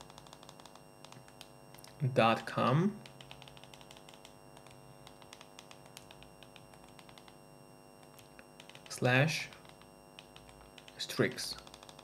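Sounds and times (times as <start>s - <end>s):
rapid clicking of buttons: 0.0s - 2.0s, 3.0s - 7.4s, 8.0s - 12.0s
low electrical hum: 0.0s - 12.0s.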